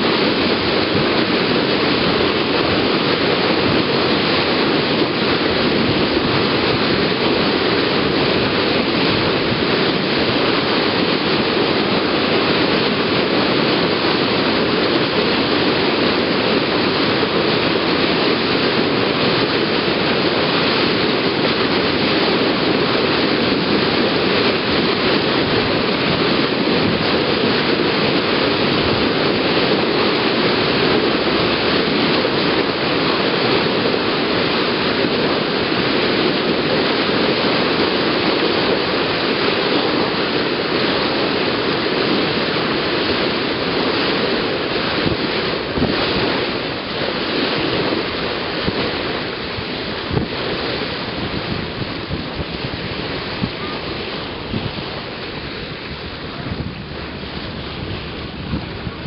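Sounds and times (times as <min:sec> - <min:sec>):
water rushing against hull: 0:00.0 - 0:59.0.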